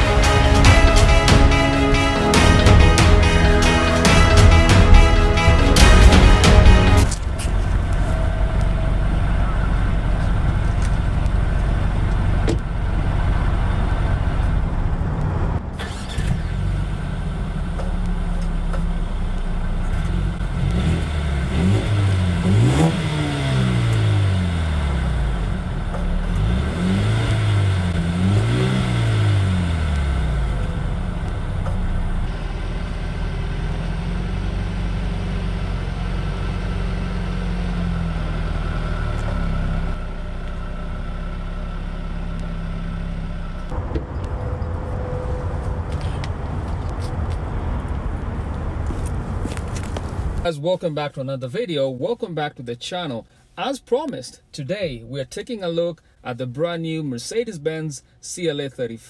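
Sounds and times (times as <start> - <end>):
car exhaust idling and revving: 0.0 - 50.5.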